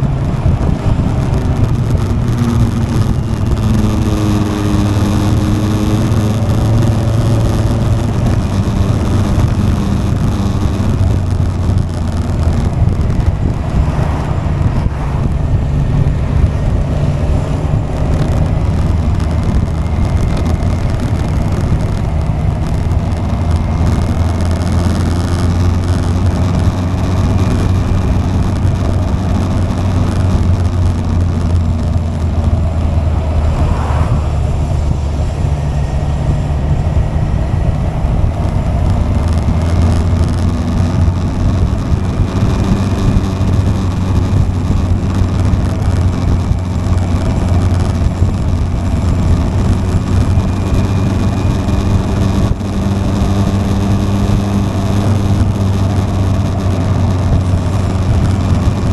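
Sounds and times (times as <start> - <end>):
motorcycle engine cruising: 0.0 - 58.9
wind and road noise: 0.0 - 58.9.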